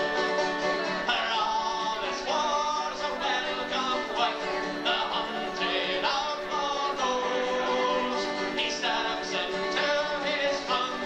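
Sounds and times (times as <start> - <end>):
acoustic guitar: 0.0 - 11.0
man singing: 1.0 - 11.0.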